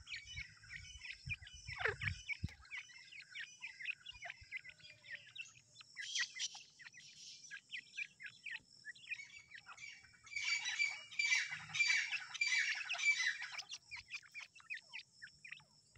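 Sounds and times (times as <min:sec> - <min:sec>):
chicks peeping: 0:00.0 - 0:15.7.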